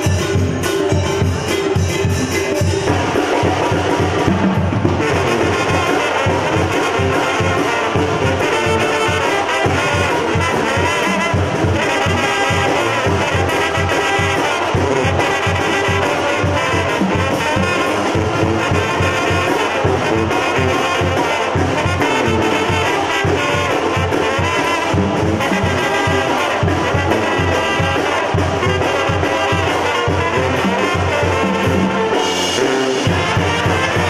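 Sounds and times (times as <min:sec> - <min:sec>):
drums keeping a steady beat: 0:00.0 - 0:34.0
trumpets and trombones: 0:00.0 - 0:34.0.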